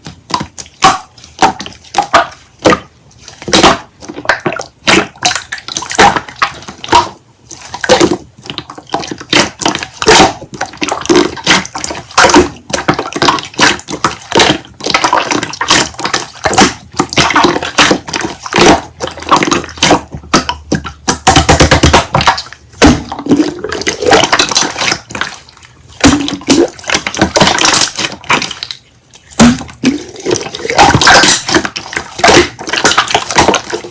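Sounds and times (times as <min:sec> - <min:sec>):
hands squishing slime: 0:00.0 - 0:33.9.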